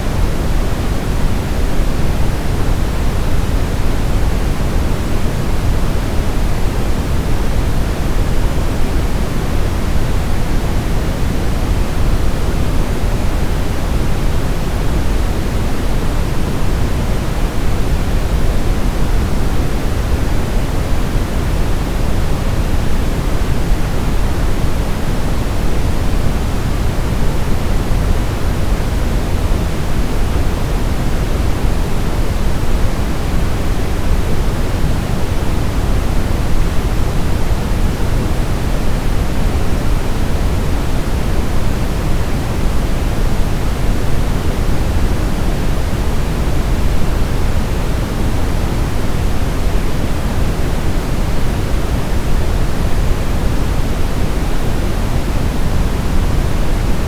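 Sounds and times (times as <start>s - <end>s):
steady deep noise hiss: 0.0s - 57.0s.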